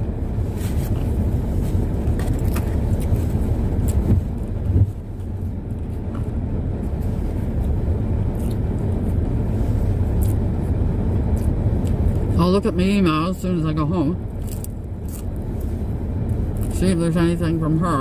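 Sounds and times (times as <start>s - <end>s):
car driving rumble inside cabin: 0.0s - 18.0s.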